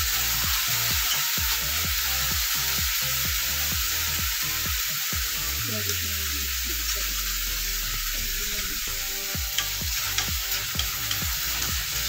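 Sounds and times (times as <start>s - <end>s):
potatoes frying in hot oil: 0.0s - 12.0s.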